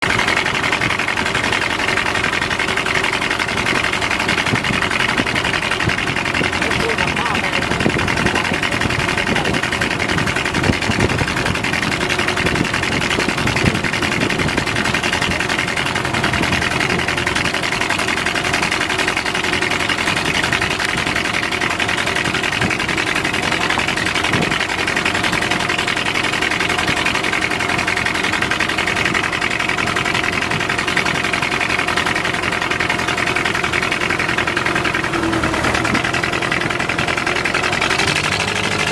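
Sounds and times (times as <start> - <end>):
boat engine chugging: 0.0 - 38.9.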